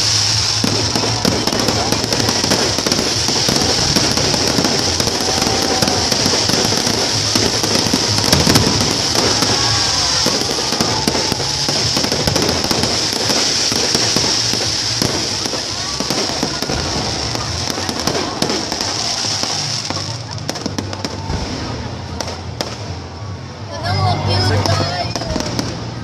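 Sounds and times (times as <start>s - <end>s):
fireworks crackling and popping: 0.0s - 23.6s, 24.4s - 26.0s.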